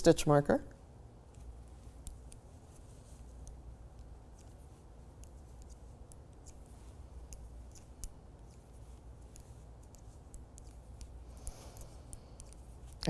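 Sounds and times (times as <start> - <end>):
knitting needles clicking: 1.3 - 13.0.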